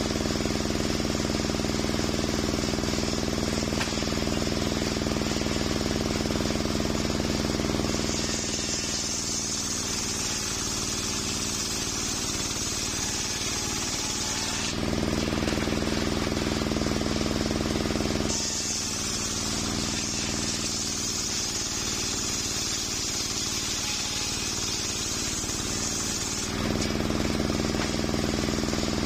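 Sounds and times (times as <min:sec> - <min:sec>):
circular saw running: 0:00.0 - 0:29.0
saw ripping through log: 0:00.1 - 0:29.0.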